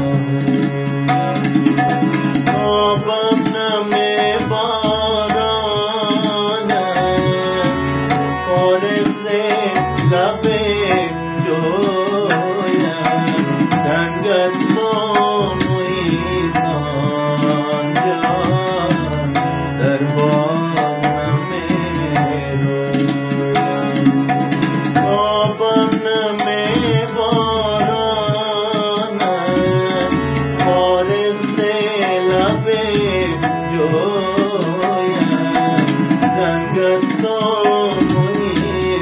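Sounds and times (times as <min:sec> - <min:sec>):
harmonium chords: 0:00.0 - 0:39.0
man singing: 0:00.0 - 0:39.0
tabla drums: 0:00.0 - 0:39.0.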